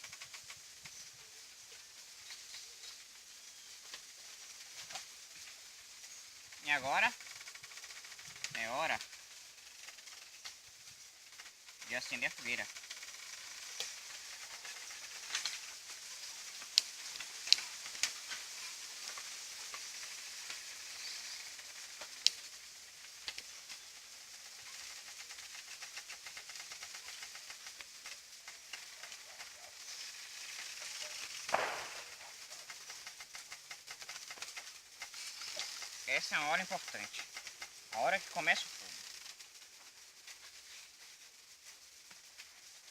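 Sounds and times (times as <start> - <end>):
kindling fire hissing and crackling: 0.0 - 42.9.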